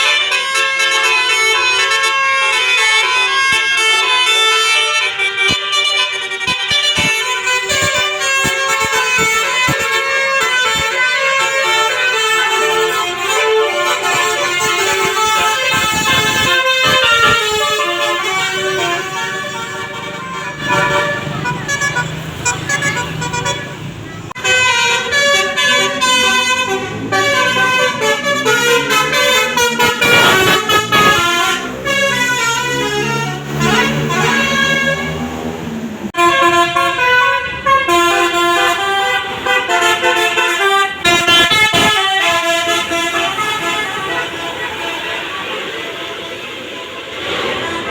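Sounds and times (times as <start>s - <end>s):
bus musical air horn: 0.0s - 47.9s.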